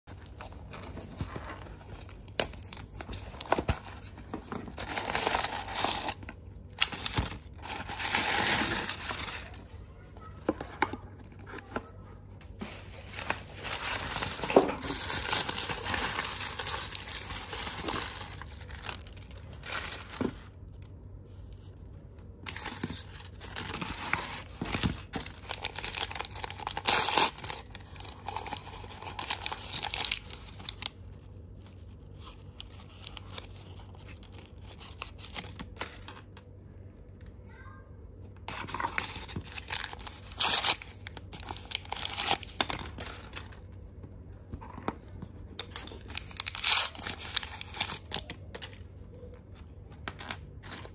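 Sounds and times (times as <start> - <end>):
plastic wrappers crinkling and tearing: 0.1 - 9.8, 10.6 - 36.5, 38.5 - 43.9, 45.0 - 50.9.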